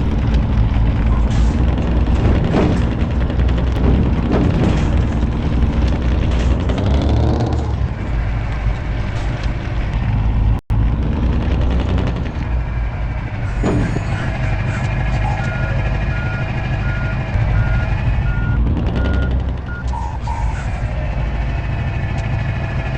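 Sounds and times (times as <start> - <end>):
truck engine revving: 0.0 - 22.9.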